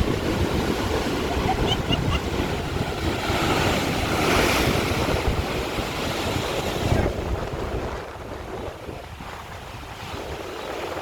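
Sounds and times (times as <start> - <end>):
surf washing against rock: 0.0 - 11.0
wind buffeting microphone: 0.0 - 11.0.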